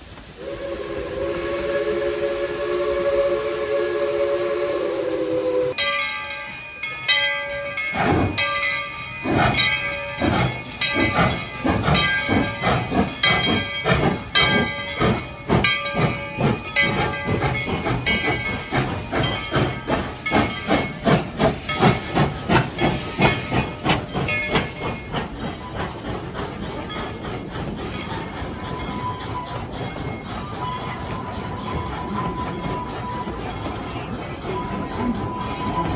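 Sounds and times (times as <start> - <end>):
steam hissing: 0.0 - 35.9
steam locomotive exhaust chuffs: 0.0 - 35.9.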